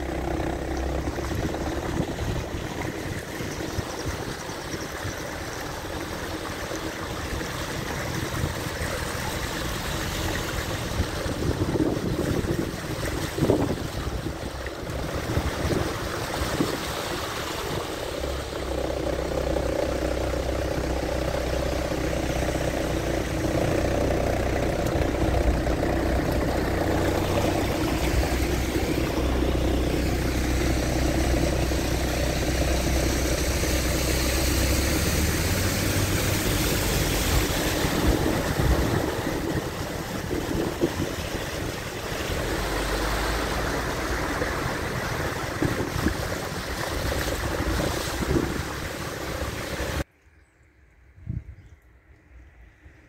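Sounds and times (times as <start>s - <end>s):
car engine running: 0.0s - 50.0s
water washing around tyres: 0.0s - 50.1s.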